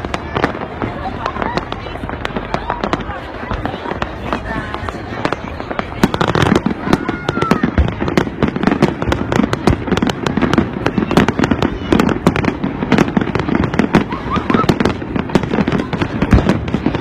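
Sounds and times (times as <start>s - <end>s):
continuous rumble: 0.0s - 17.0s
crowd voices: 0.0s - 17.0s
fireworks bangs and cracks: 0.0s - 17.0s.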